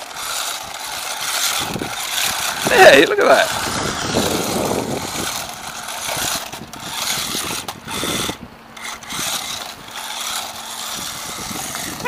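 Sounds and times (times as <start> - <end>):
toy car motor whirring: 0.0 - 12.0.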